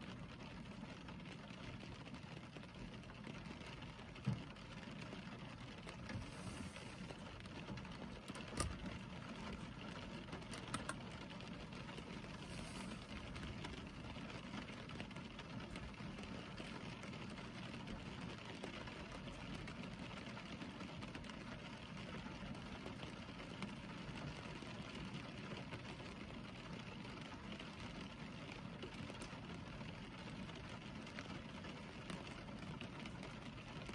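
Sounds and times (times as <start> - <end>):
rain on car roof: 0.0 - 33.9.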